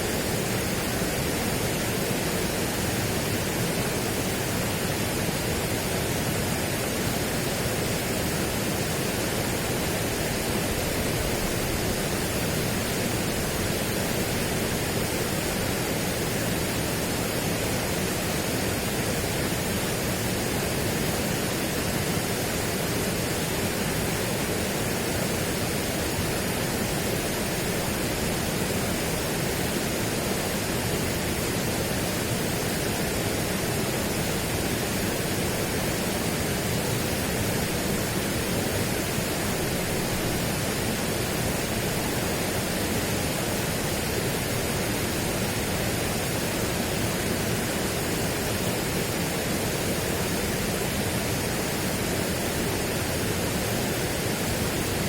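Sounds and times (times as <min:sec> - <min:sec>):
steady broadband rushing noise: 0:00.0 - 0:55.0.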